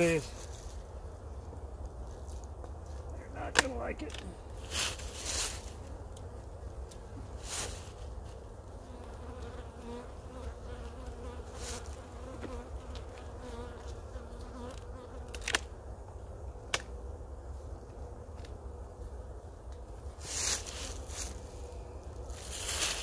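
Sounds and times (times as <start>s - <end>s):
honeybees buzzing: 3.2s - 23.0s.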